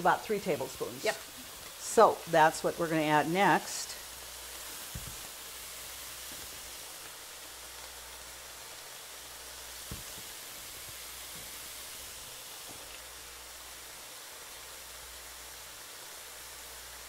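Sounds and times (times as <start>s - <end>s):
meat and onion sizzling in skillet: 0.0s - 17.0s.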